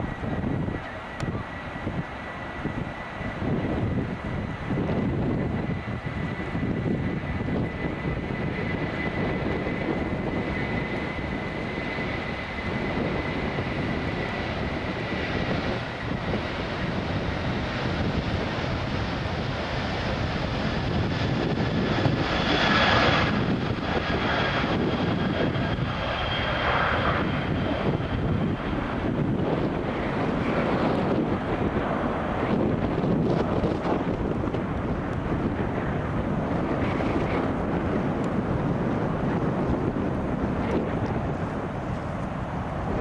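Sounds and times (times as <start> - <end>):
aircraft engines whining: 0.0 - 43.0.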